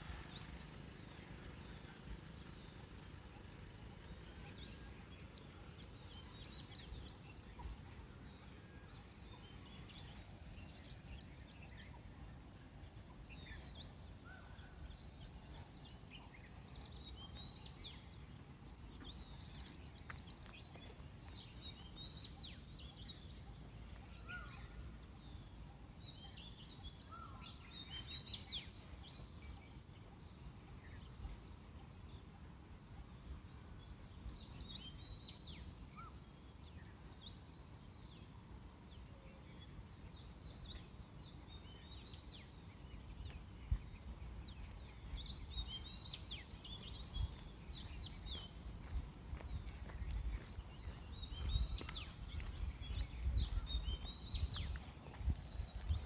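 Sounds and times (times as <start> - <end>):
birds chirping faintly: 0.0 - 56.0
faint low outdoor rumble: 0.0 - 56.0.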